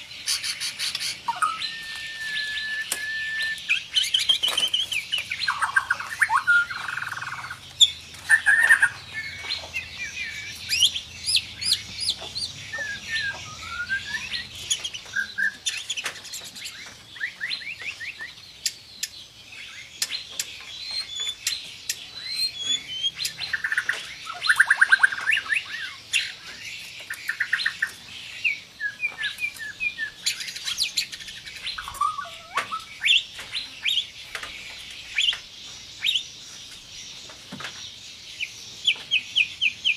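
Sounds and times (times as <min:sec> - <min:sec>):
songbird whistles and trills: 0:00.2 - 0:36.2.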